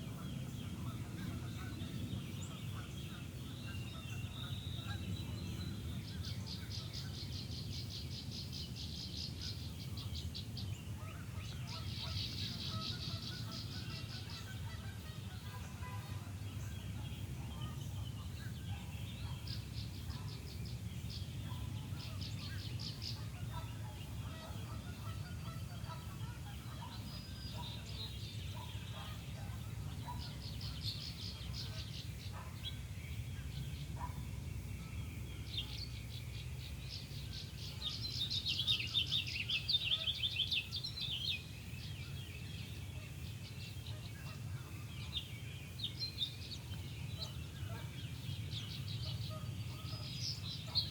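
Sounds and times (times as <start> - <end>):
songbirds trilling: 0.0 - 50.9.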